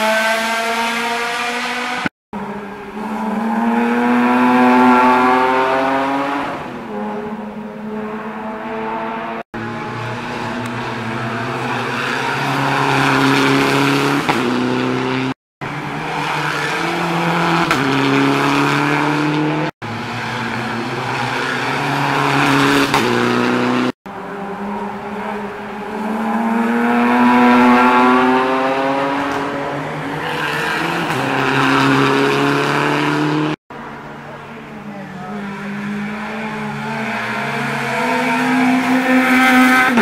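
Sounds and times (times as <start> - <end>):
rally cars accelerating: 0.0 - 40.0.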